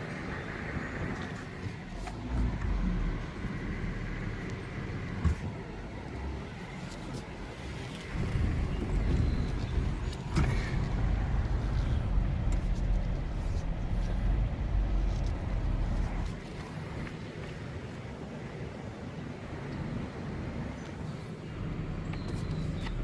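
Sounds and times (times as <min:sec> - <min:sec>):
vehicle engine running: 0:00.0 - 0:17.4, 0:19.6 - 0:23.0.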